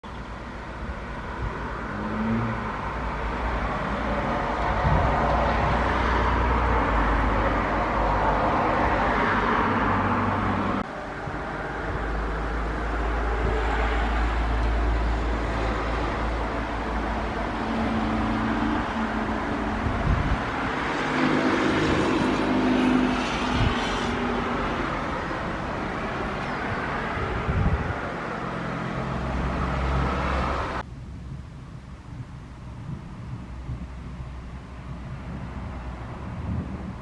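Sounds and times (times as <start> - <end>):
car noise: 0.0 - 37.0.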